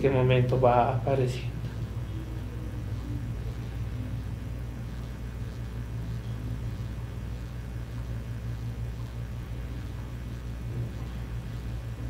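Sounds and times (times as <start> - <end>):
low room tone hum: 0.0 - 12.0.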